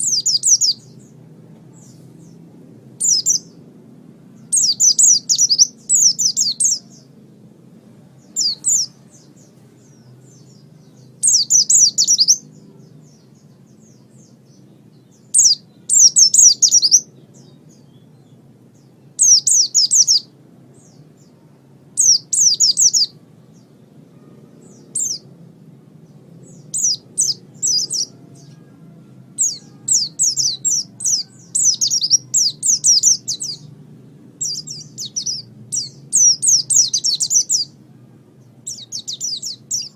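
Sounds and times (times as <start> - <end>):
bird twittering chirps: 0.0 - 2.4, 3.0 - 3.6, 4.4 - 7.1, 8.2 - 21.4, 22.0 - 25.3, 26.4 - 28.7, 29.4 - 33.8, 34.4 - 37.8, 38.6 - 39.9
faint low hum: 0.0 - 39.9.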